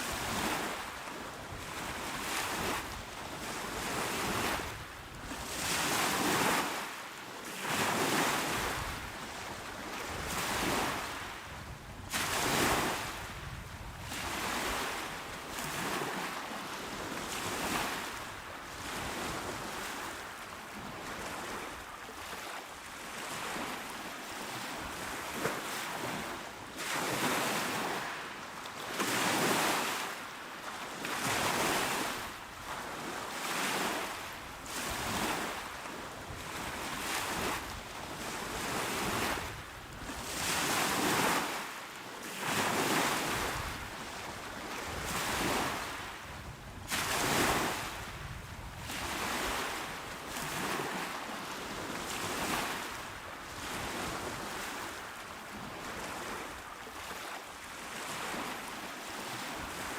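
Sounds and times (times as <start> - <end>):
small waves washing onto shore: 0.0 - 59.9.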